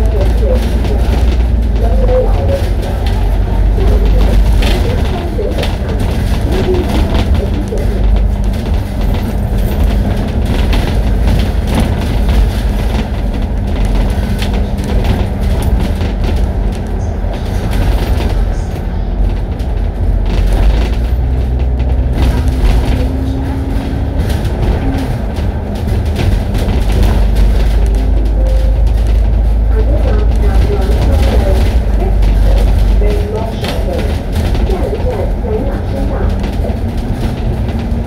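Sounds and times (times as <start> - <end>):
bus engine droning: 0.0 - 38.0
road rumble: 0.0 - 38.0.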